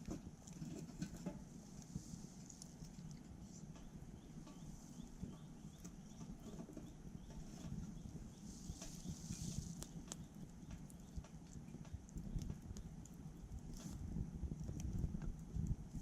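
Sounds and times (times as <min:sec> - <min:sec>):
low steady rumble: 0:00.0 - 0:16.0
wood fire crackling: 0:00.0 - 0:16.0.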